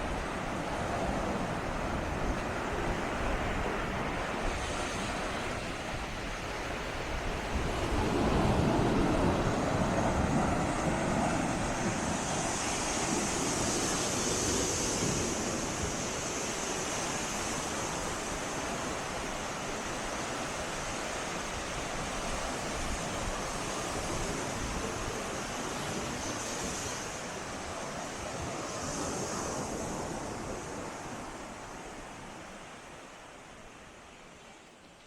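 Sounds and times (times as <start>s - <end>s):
water washing over shore: 0.0s - 34.4s
sea waves breaking: 0.0s - 34.7s.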